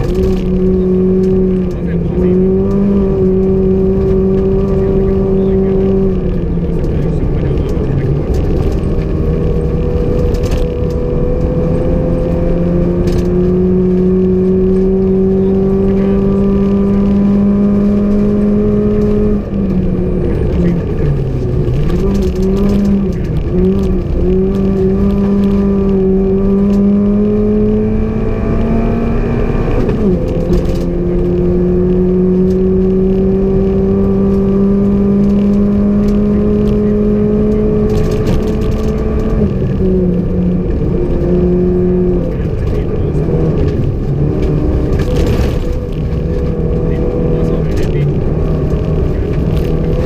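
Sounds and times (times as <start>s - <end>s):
car engine at full throttle: 0.0s - 50.0s
road and tyre noise: 0.0s - 50.0s.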